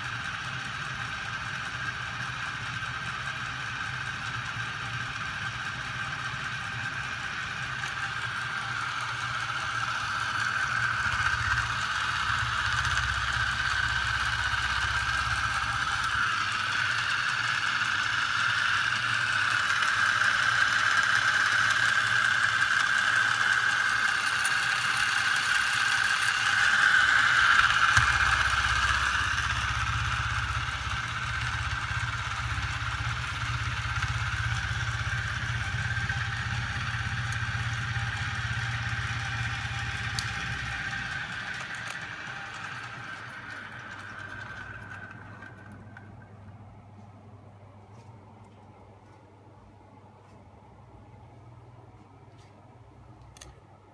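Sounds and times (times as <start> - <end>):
machine whine over hum: 0.0 - 53.9.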